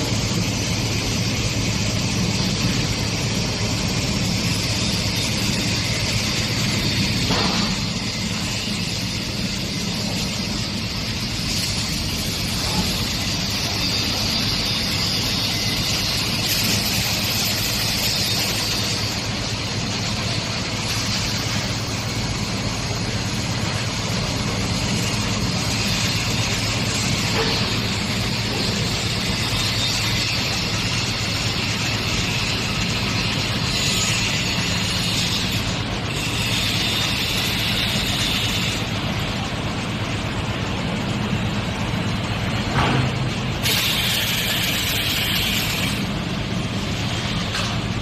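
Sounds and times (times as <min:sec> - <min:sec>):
machinery humming and hissing: 0:00.0 - 0:48.0.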